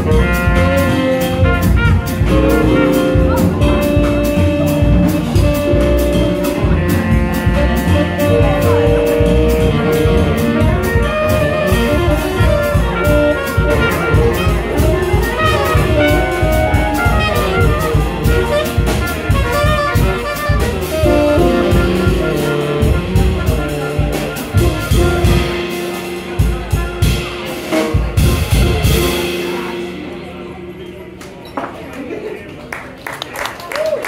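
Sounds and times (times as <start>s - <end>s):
trumpet: 0.0s - 30.4s
saxophones: 0.0s - 31.0s
drums: 0.0s - 32.2s
bass: 0.0s - 34.0s.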